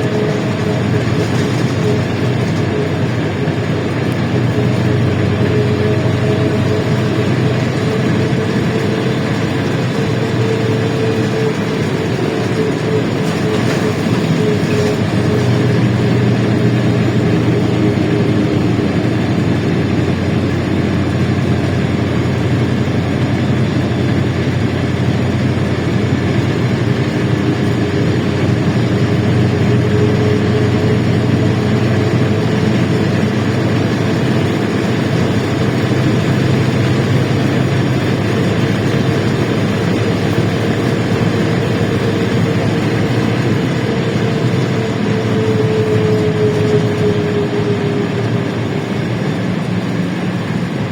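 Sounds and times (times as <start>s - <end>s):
bus engine droning: 0.0s - 50.9s
road noise: 0.0s - 50.9s
thin whine: 0.0s - 50.9s.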